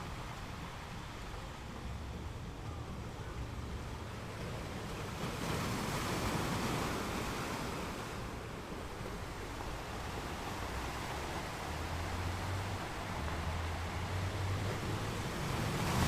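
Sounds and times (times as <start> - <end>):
low rumble of surf: 0.0 - 16.0
wave washing onto shore: 0.0 - 16.0.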